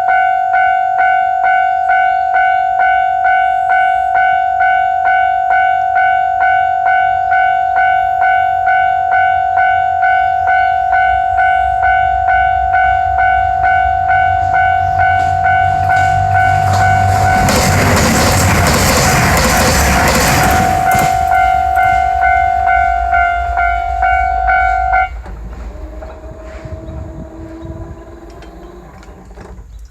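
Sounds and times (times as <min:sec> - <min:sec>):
diesel railcar rumble: 0:00.0 - 0:29.9
train passing: 0:00.0 - 0:29.9.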